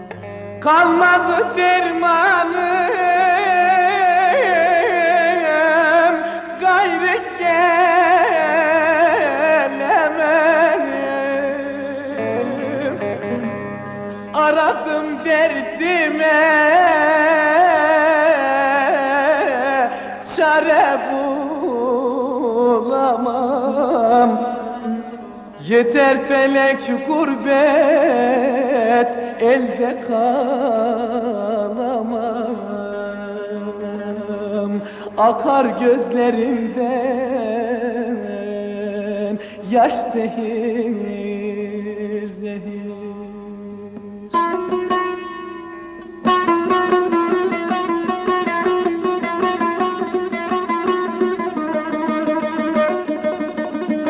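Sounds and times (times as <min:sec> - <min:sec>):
folk song with vibrato melody: 0:00.0 - 0:54.0.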